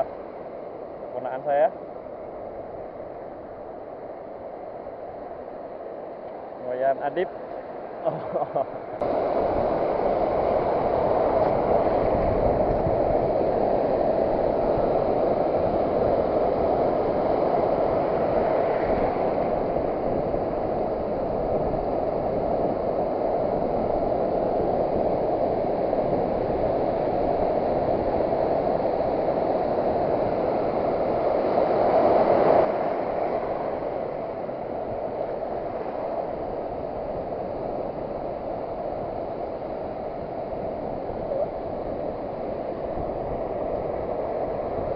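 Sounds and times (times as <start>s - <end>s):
sea surf washing on beach: 0.0s - 44.9s.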